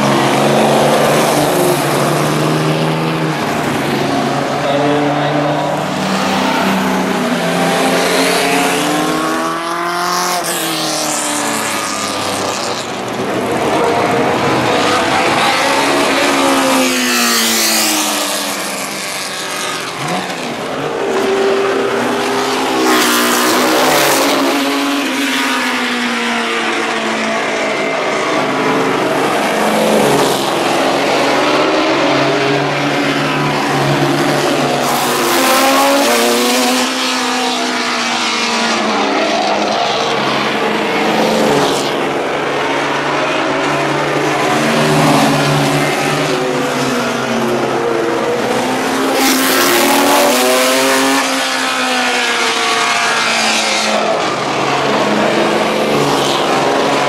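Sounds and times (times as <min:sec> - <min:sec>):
racing car engines passing by: 0:00.0 - 0:57.0.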